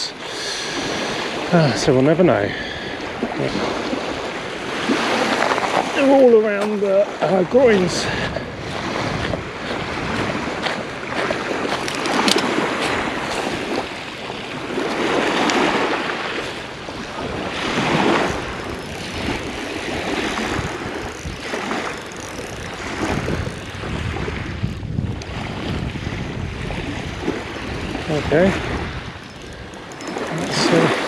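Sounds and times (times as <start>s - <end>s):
waves washing onto shingle: 0.0s - 31.0s
wind buffeting microphone: 0.0s - 31.0s.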